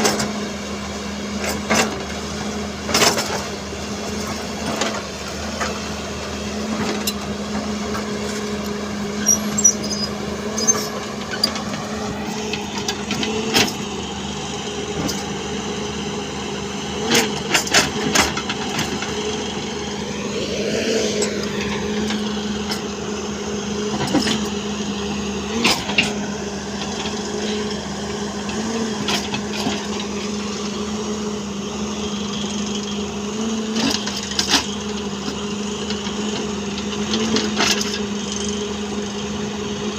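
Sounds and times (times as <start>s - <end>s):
machine engine running: 0.0s - 39.9s.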